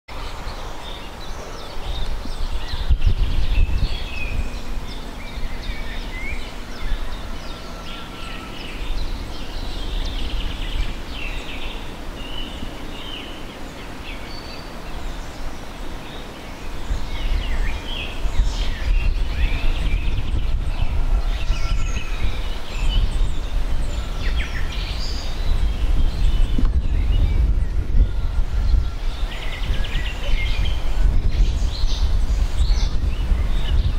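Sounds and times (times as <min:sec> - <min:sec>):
songbirds chirping and trilling: 0:00.1 - 0:33.9
low uneven rumble: 0:00.3 - 0:33.9.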